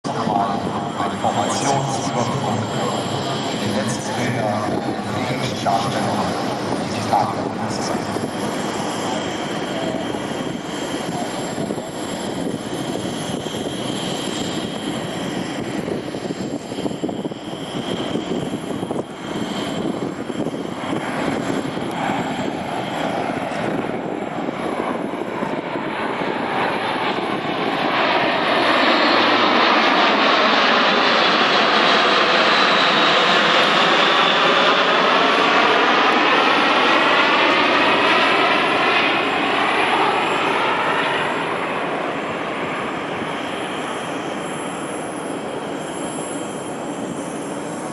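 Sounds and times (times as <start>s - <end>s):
turboprop aircraft engines droning: 0.0s - 47.9s
aircraft whoosh passing: 0.1s - 47.9s.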